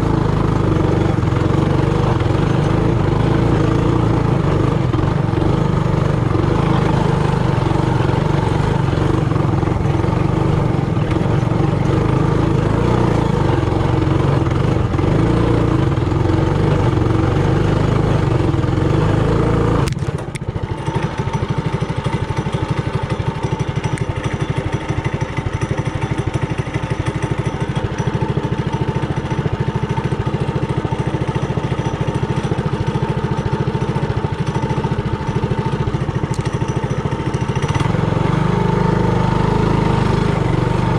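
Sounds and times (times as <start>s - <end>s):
minibike engine running: 0.0s - 40.9s.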